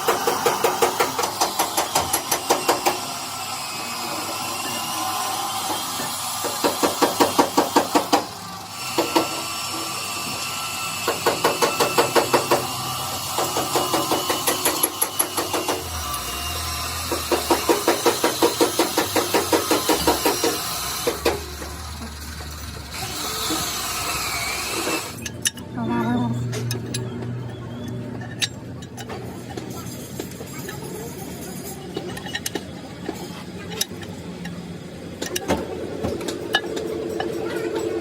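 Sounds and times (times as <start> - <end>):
workshop hum: 0.0 - 38.0.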